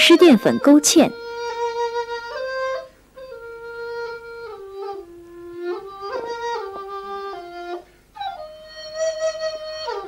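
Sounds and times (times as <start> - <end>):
flute playing slow melody: 1.1 - 10.0.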